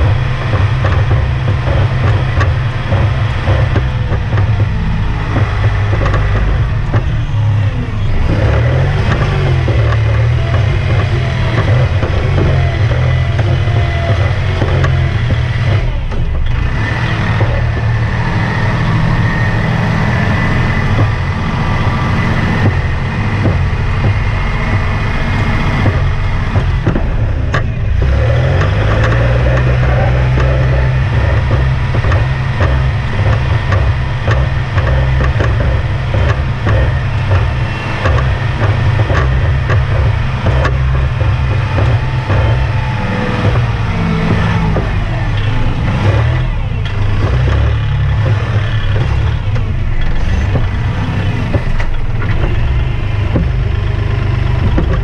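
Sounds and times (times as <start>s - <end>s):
rattles and knocks: 0.0s - 55.0s
tractor diesel engine running: 0.0s - 55.0s.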